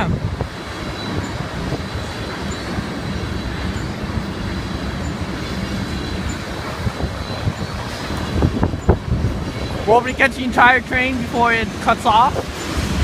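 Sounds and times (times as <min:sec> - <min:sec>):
train wheels rumbling on rail: 0:00.0 - 0:13.0
faint high wheel squeal: 0:00.6 - 0:12.9.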